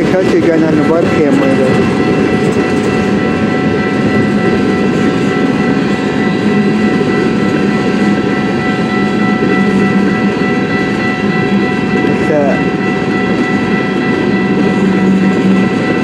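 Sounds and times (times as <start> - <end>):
high-pitched tones: 0.0 - 16.0
train wheels rumbling on rails: 0.0 - 16.0.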